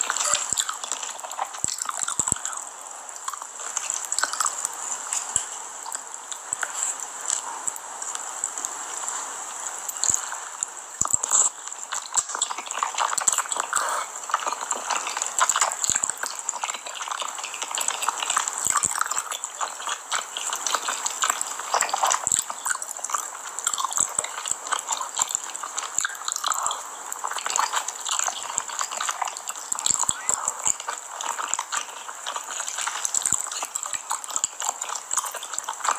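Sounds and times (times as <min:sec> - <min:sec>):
sticky mouth clicks: 0:00.0 - 0:08.8, 0:09.9 - 0:35.9
wet slurping and chewing: 0:00.0 - 0:35.9.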